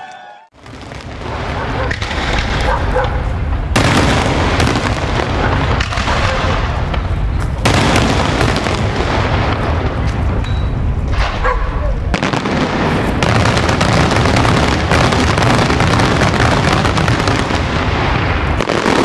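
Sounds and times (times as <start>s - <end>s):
fireworks bursting: 0.6s - 11.4s, 12.0s - 19.0s.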